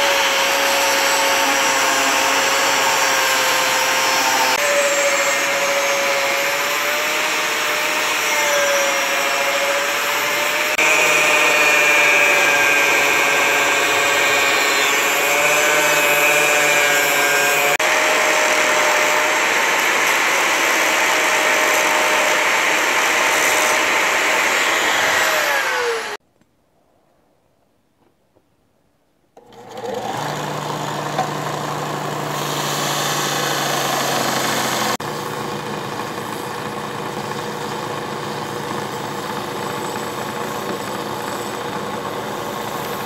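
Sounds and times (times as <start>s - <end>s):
angle grinder cutting metal: 0.0s - 26.2s, 29.4s - 35.4s, 36.0s - 43.0s.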